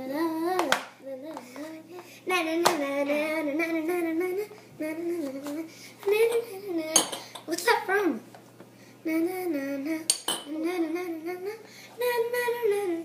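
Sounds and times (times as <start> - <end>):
girl singing wordless tune: 0.0 - 13.0.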